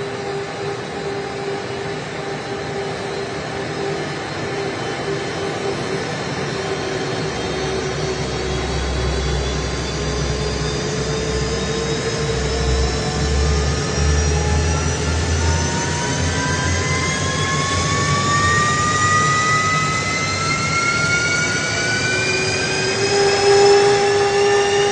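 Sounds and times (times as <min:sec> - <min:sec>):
jet engine whine rising: 0:00.0 - 0:24.9
jet engines running: 0:00.0 - 0:24.9.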